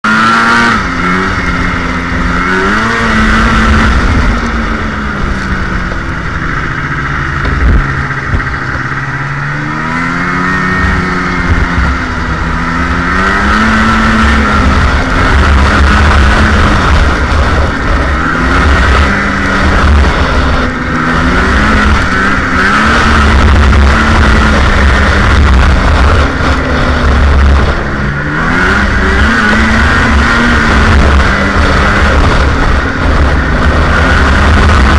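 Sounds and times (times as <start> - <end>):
snowmobile engine revving: 0.0 - 34.9.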